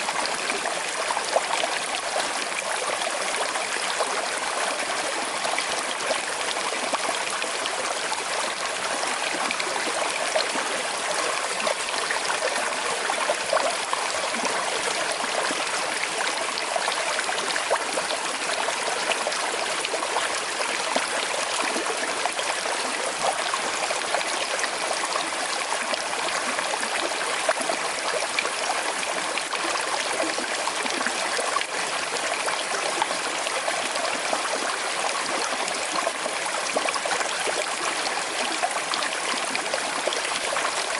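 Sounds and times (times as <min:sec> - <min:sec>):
river flowing over stones: 0:00.0 - 0:40.9.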